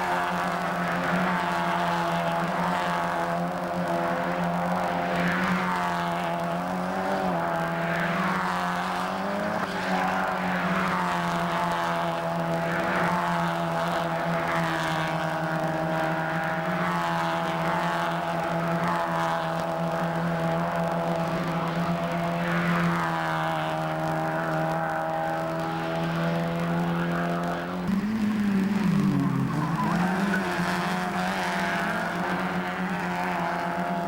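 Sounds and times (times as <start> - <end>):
race car engines droning: 0.0 - 34.0
race cars revving and passing: 0.0 - 34.0.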